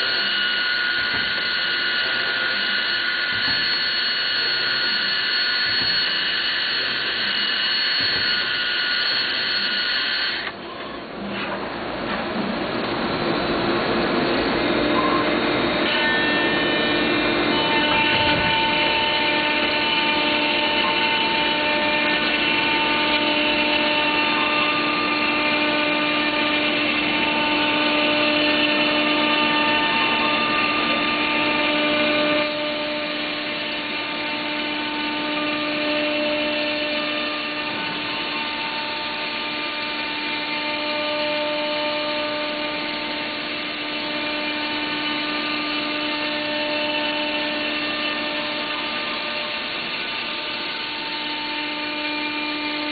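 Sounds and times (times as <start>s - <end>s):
router bit cutting board: 0.0s - 10.6s, 13.8s - 52.9s
router spindle whine: 0.0s - 52.9s.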